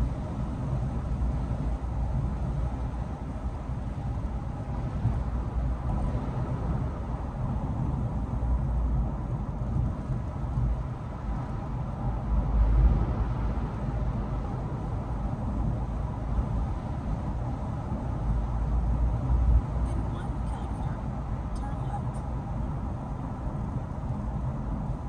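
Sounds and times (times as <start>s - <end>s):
car interior road noise: 0.0s - 25.0s.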